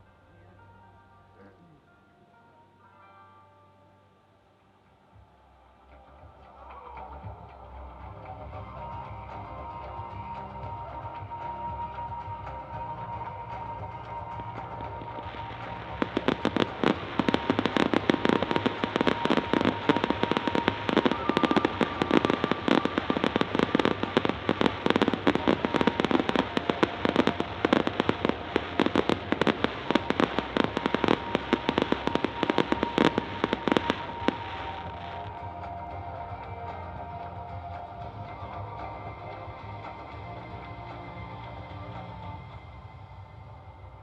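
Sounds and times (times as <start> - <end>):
music: 0.0 - 44.0
fireworks crackling: 6.1 - 44.0.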